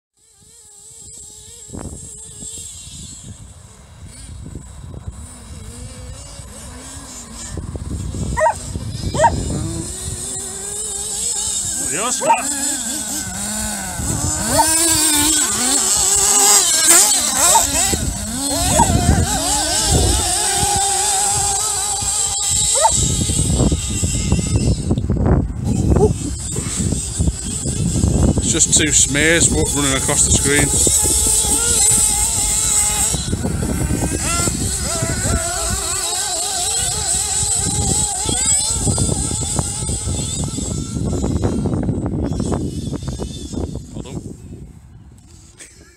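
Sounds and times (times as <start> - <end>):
nitro rc car engines revving: 0.2 - 45.9.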